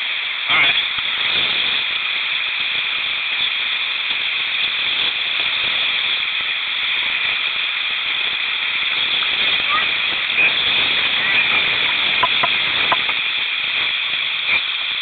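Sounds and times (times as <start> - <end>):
creek water over rocks: 0.0 - 15.0.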